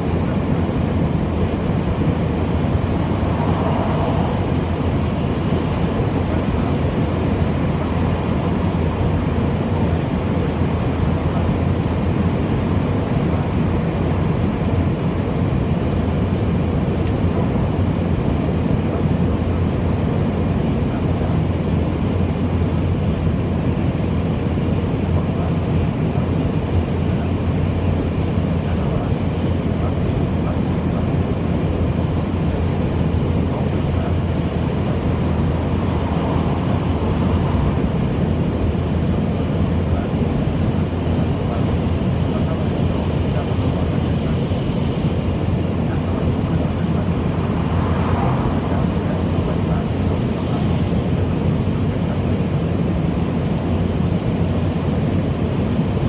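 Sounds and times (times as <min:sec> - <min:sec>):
rushing air: 0:00.0 - 0:29.6, 0:30.2 - 0:56.0
train wheels rumbling on rail: 0:00.0 - 0:56.0.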